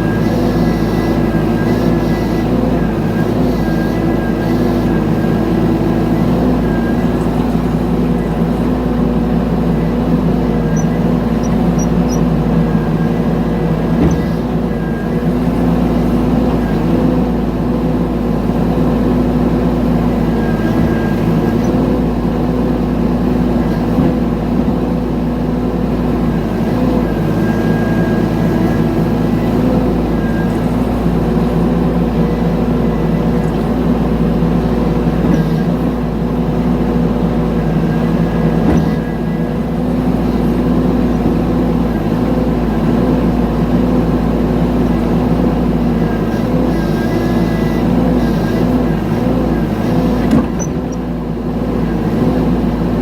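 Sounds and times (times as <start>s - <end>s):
mini excavator engine running: 0.0s - 53.0s.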